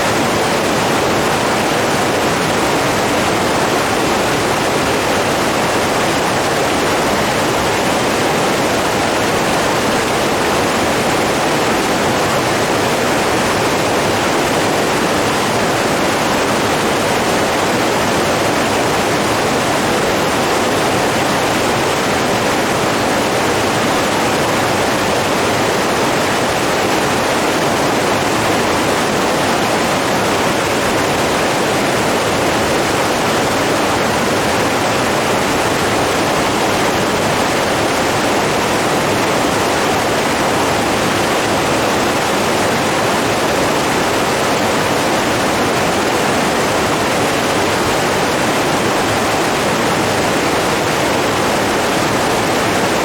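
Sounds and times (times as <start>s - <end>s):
rushing water roar: 0.0s - 53.0s.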